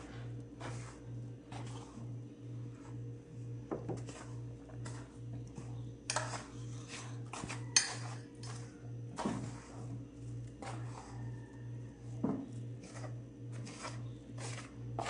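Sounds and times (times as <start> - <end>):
hand mixing flour in basin: 0.0 - 15.0.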